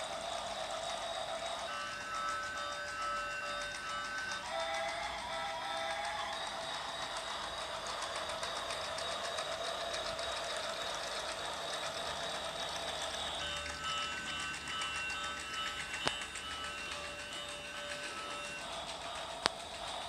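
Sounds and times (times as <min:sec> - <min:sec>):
toy train motor clatter: 0:00.0 - 0:20.0.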